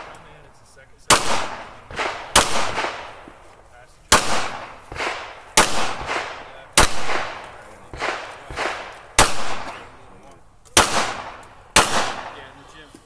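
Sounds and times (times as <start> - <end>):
pistol shots with echo: 0.0 - 3.4, 4.1 - 12.7.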